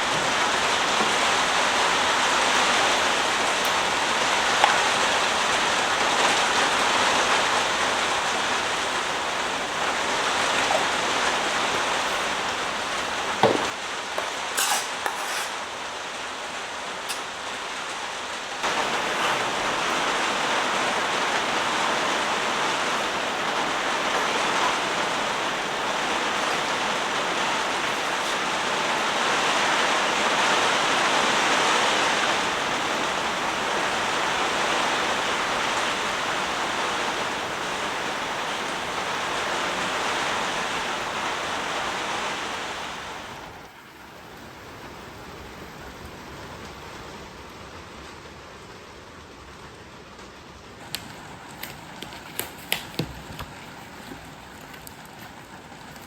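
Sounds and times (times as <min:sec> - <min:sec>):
heavy rain hissing: 0:00.0 - 0:49.0, 0:50.7 - 0:56.0.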